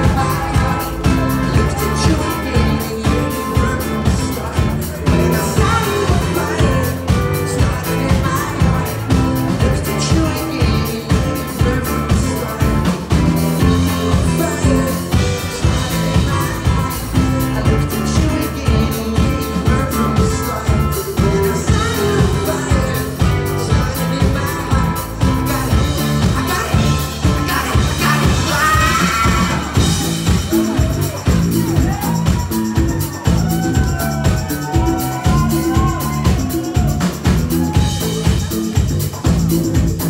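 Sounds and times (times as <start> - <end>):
live pop-rock band playing: 0.0 - 40.0
person singing: 0.0 - 40.0.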